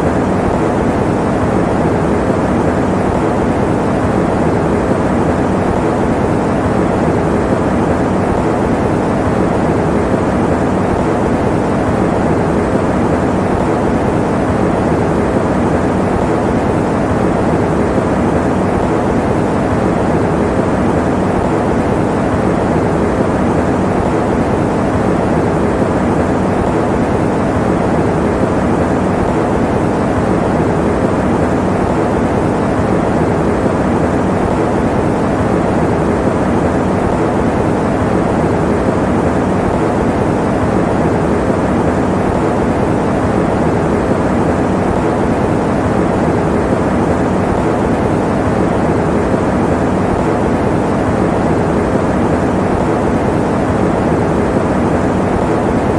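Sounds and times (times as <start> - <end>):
electric fan running: 0.0 - 55.9.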